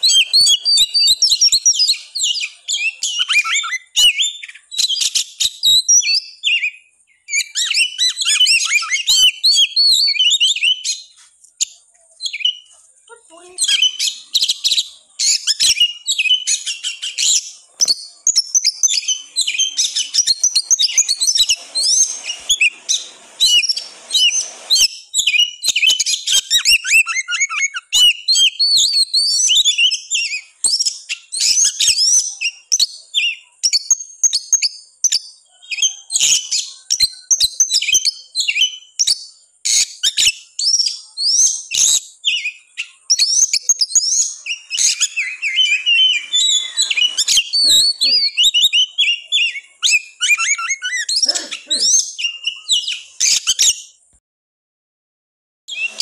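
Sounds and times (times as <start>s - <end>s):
bird singing chirps and trills: 0.0s - 54.0s, 55.7s - 56.0s.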